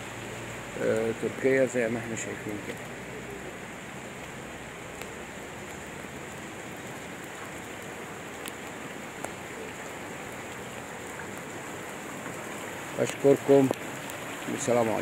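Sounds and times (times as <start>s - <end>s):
rain on wet street: 0.0s - 15.0s.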